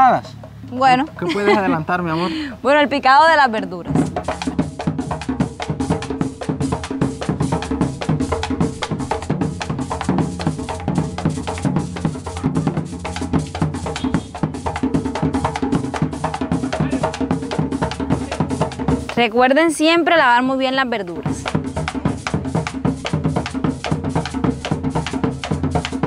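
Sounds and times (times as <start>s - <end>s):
music with fast percussion beat: 0.0s - 26.0s.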